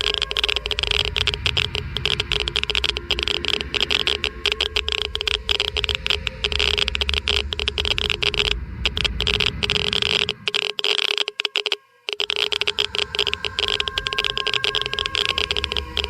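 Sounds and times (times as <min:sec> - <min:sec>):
geiger counter clicking: 0:00.0 - 0:16.0.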